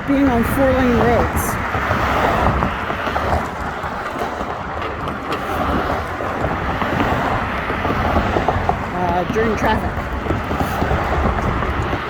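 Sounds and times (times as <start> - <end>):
road traffic: 0.0 - 12.0
wind buffeting microphone: 0.0 - 12.0.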